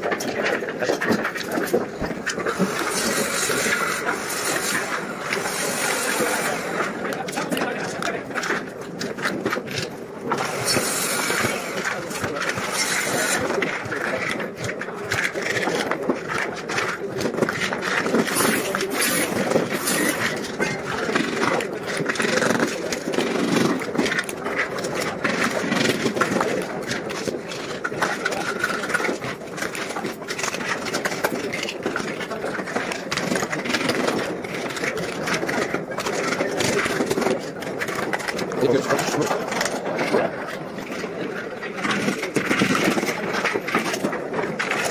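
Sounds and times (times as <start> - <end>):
steady machine noise: 0.0 - 44.9.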